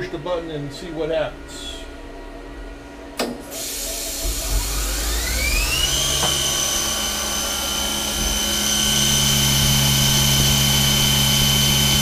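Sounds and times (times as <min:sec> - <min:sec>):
low machine hum: 0:00.0 - 0:12.0
machine spindle high whine: 0:00.0 - 0:12.0.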